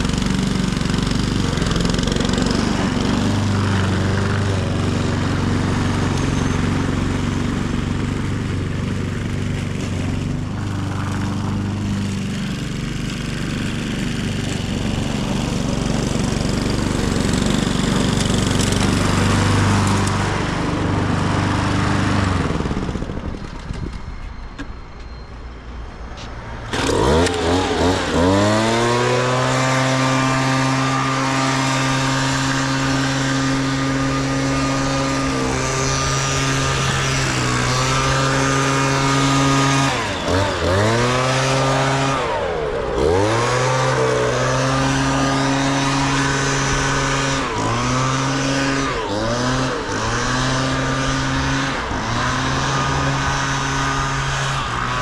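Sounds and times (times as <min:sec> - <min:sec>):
garden power tool revving: 0:00.0 - 0:23.8, 0:26.5 - 0:55.0
lawn mower engine: 0:00.0 - 0:55.0.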